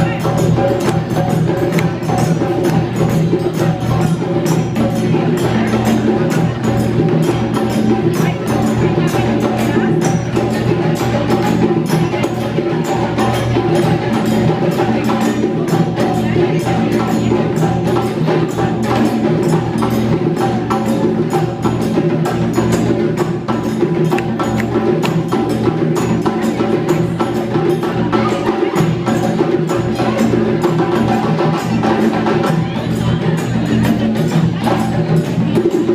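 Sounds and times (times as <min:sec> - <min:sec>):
drums fast rhythm: 0:00.0 - 0:35.9.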